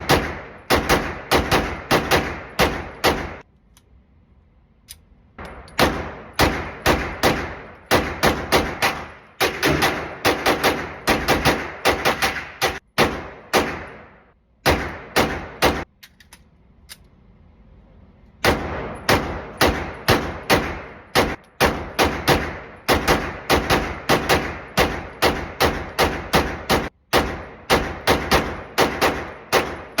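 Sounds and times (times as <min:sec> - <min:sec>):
rapid gunshots: 0:00.0 - 0:03.4, 0:05.5 - 0:15.9, 0:18.4 - 0:30.0.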